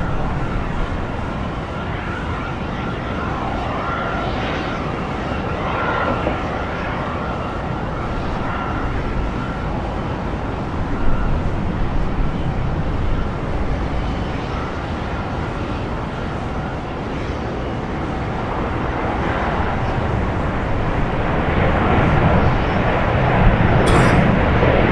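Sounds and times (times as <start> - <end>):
jet engine whine: 0.0 - 24.9.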